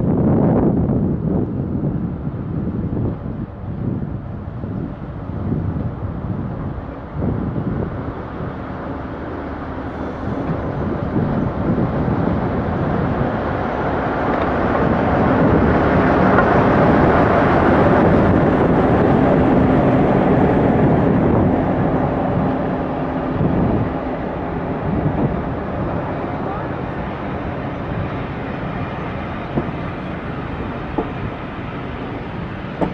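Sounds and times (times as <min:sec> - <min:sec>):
train passing: 0:00.0 - 0:32.9.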